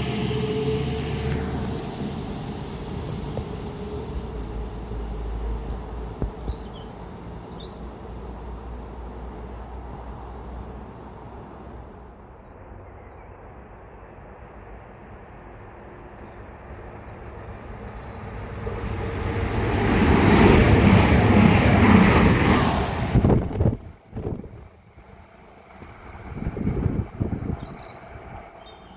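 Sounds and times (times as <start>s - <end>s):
train passing: 0.0s - 28.9s.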